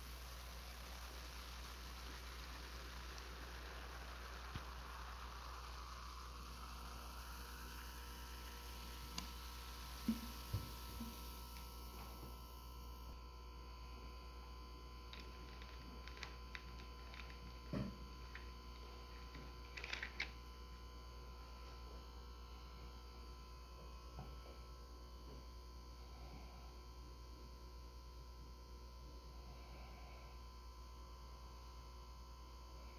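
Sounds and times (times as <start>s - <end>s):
low electrical hum: 0.0s - 32.9s.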